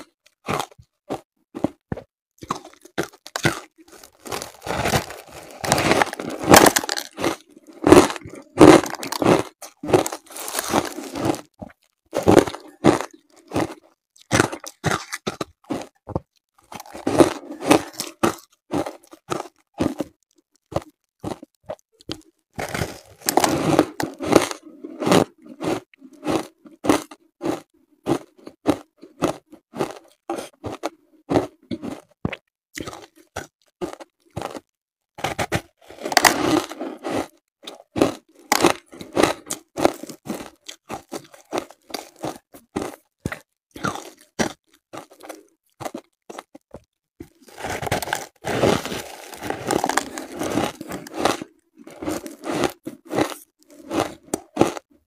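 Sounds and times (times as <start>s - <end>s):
ice crunching while chewed: 0.0s - 55.0s.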